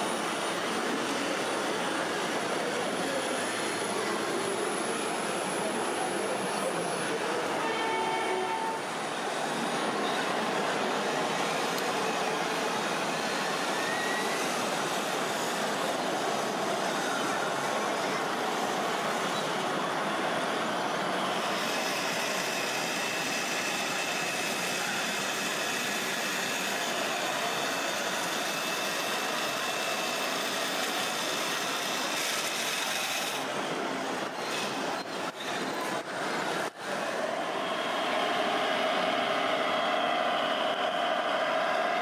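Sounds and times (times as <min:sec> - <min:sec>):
model trucks mechanical noise: 0:00.0 - 0:42.0.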